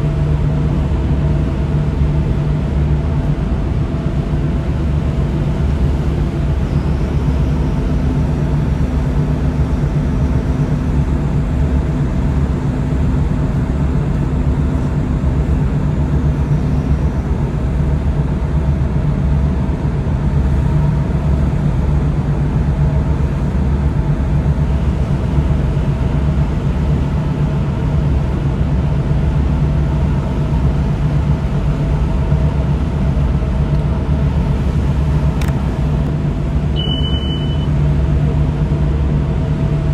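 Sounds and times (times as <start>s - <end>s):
boat diesel engine drone: 0.0s - 39.9s.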